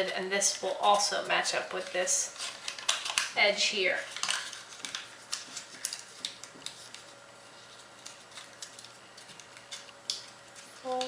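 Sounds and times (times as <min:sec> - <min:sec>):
paper crinkling: 0:00.0 - 0:11.0
sharp paper clicks: 0:00.9 - 0:03.4, 0:04.0 - 0:11.0.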